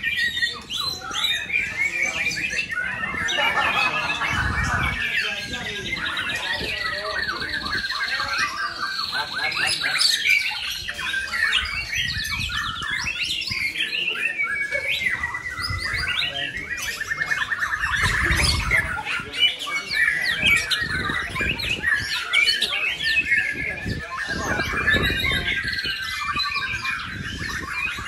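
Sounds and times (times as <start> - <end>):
songbirds singing whistles and trills: 0.0 - 28.0.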